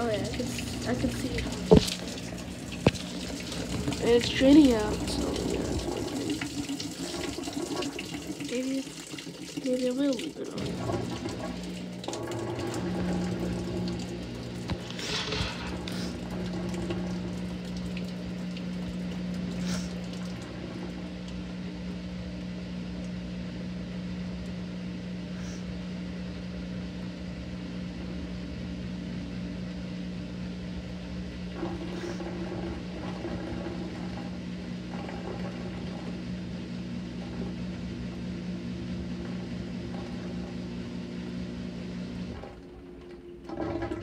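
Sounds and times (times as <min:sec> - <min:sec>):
washer motor humming: 0:00.0 - 0:44.0.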